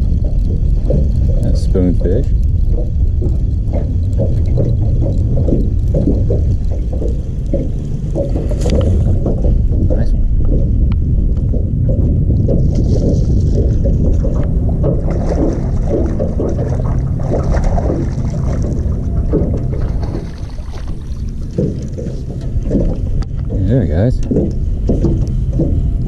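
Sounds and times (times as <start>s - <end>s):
waves lapping against boat hull: 0.0s - 26.0s
wind buffeting microphone: 0.0s - 26.0s.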